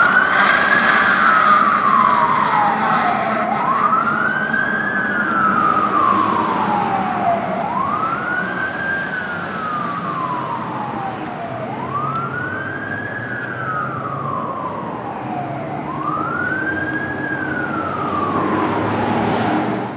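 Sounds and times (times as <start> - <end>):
engine and road noise: 0.0 - 19.9
fire engine siren wailing: 0.0 - 19.9.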